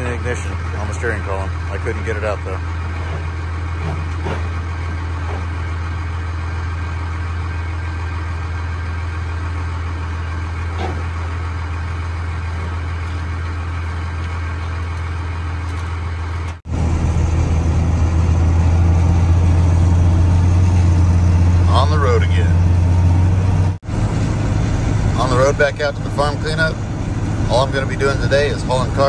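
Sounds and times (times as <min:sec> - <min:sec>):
truck driving on road: 0:00.0 - 0:29.0
vehicle engine droning: 0:00.0 - 0:29.0.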